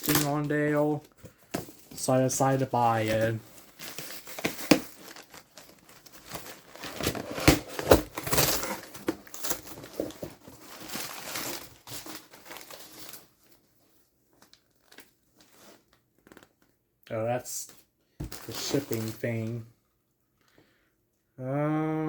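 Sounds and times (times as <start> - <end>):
packaging crinkling and rustling: 0.0 - 16.8, 17.7 - 19.6.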